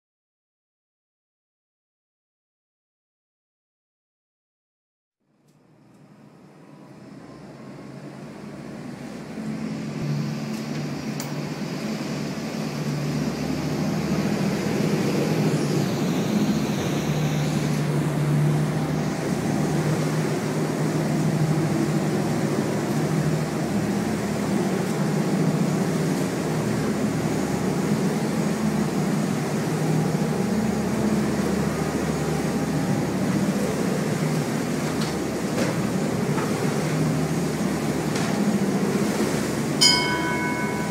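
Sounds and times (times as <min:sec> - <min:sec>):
motorboat engine running: 0:06.3 - 0:40.9.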